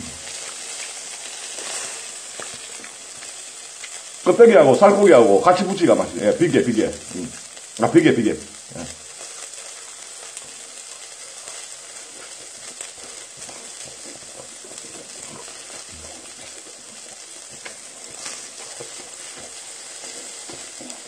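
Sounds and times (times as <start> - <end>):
crackles: 0.0 - 21.0
meat sizzling on stone grill: 0.0 - 21.0.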